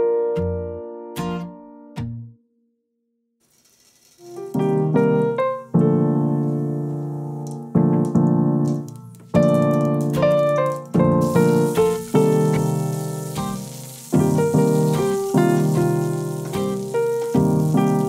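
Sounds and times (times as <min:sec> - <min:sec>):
piano chords and notes: 0:00.0 - 0:02.0, 0:04.3 - 0:18.0.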